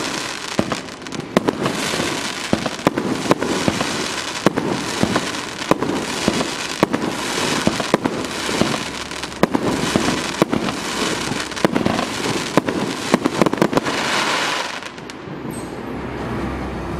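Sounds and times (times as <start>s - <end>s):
fireworks bangs: 0.0s - 15.2s
fireworks crackling: 0.0s - 15.3s.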